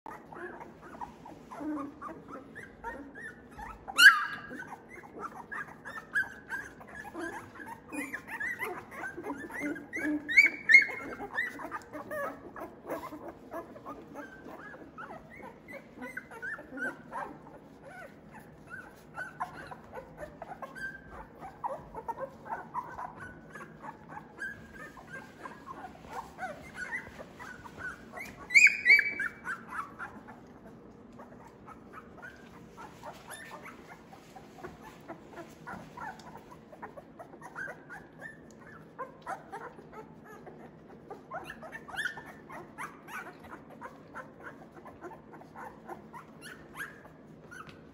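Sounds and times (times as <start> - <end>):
puppies whimpering and squeaking: 0.1 - 47.9
puppy yelps: 0.1 - 47.9.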